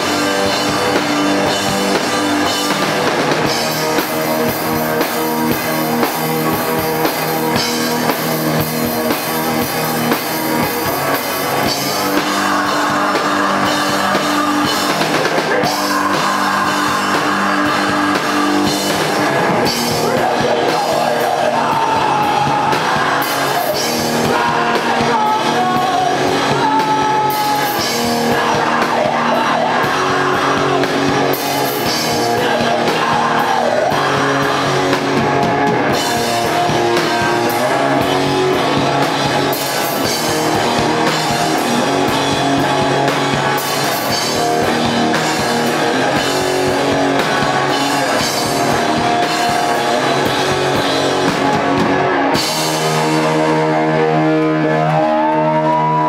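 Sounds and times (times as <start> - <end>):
drum kit: 0.0 - 56.0
electric guitar: 0.0 - 56.0
person singing: 3.8 - 56.0.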